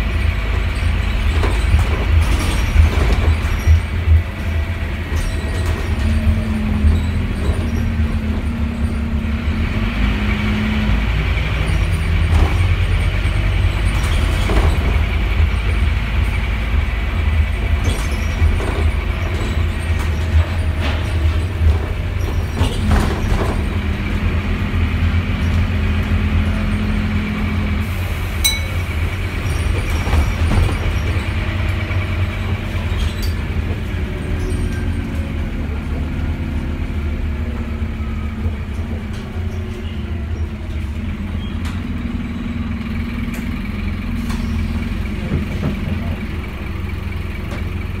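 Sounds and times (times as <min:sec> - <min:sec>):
bus diesel engine drone: 0:00.0 - 0:48.0.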